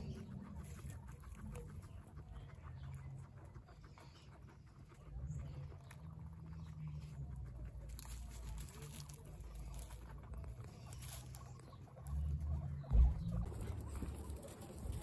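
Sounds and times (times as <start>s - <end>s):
guinea pigs rustling in straw: 0.0s - 15.0s
low steady rumble: 0.0s - 15.0s.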